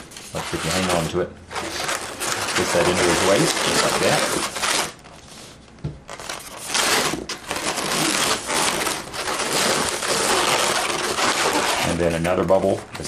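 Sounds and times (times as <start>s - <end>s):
balloons rubbing and crackling: 0.0s - 13.0s.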